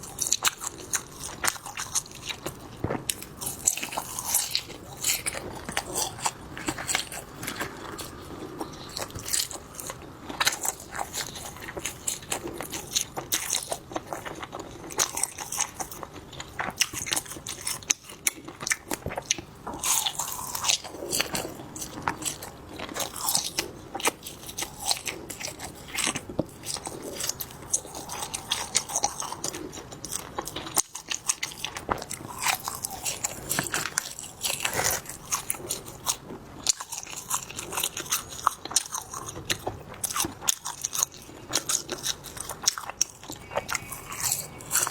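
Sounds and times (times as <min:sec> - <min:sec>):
biting and chewing crunches: 0:00.0 - 0:44.9.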